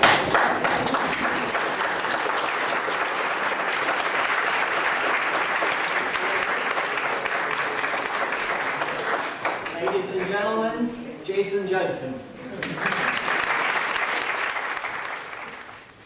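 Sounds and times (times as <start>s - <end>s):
small audience clapping: 0.0s - 10.4s, 12.5s - 16.0s.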